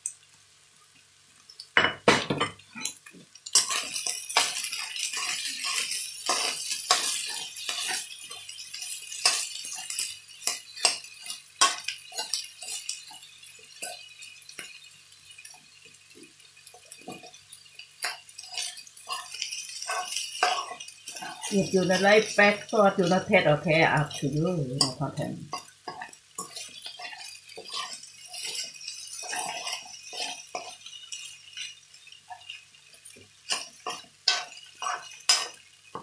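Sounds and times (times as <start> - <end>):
steady hiss: 0.0 - 36.0
utensil scraping frying pan: 1.9 - 36.0.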